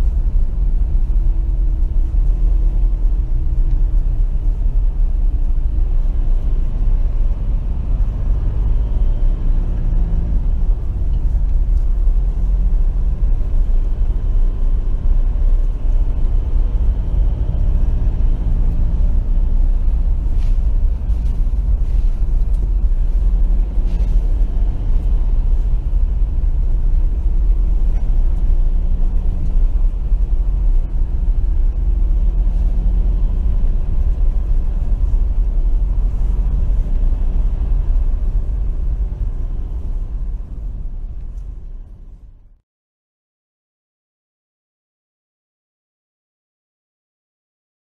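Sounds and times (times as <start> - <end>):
vehicle engine and road noise: 0.0 - 42.6.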